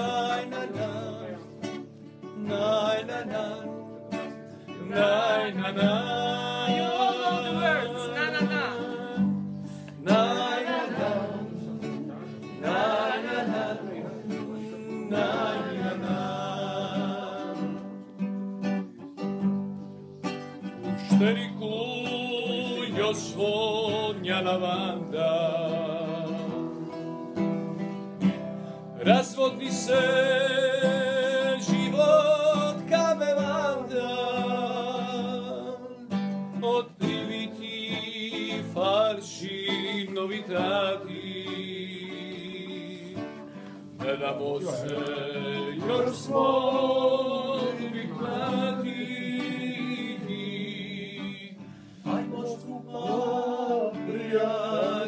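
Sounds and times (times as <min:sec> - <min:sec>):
man singing: 0:00.0 - 0:19.3, 0:20.6 - 0:27.4, 0:29.0 - 0:55.0
classical guitar: 0:00.0 - 0:55.0.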